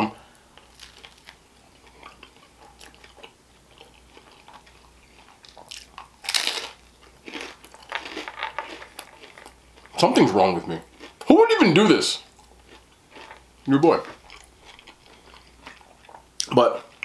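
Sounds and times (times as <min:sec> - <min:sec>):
person chewing crunchy crust: 0:00.3 - 0:17.0.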